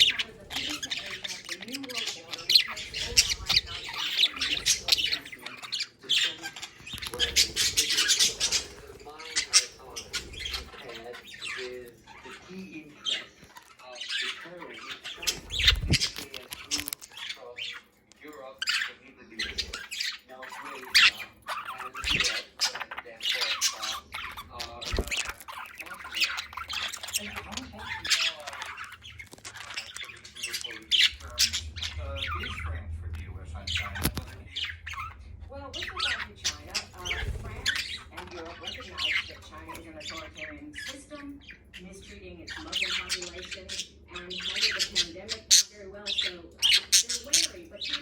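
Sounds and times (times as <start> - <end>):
budgerigars chattering and squawking: 0.0 - 48.0.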